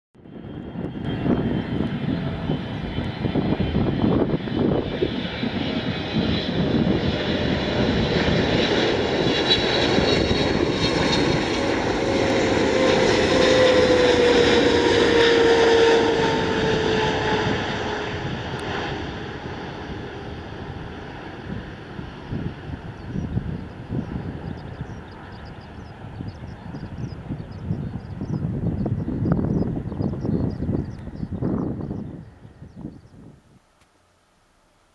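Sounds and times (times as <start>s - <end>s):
jet engine rumble with fan whine: 0.2s - 33.6s.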